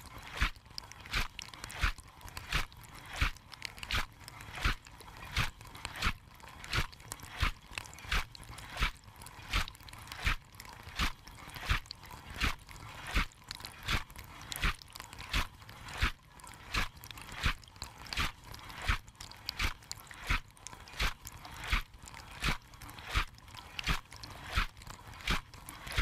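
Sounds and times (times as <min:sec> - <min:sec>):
spray arm swishing water: 0:00.0 - 0:26.0.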